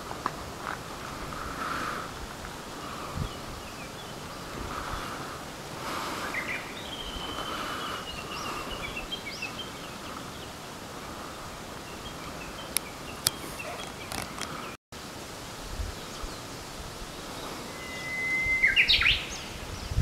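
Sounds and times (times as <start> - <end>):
background hiss: 0.0 - 20.0
small birds chirping: 0.7 - 14.8, 15.9 - 20.0.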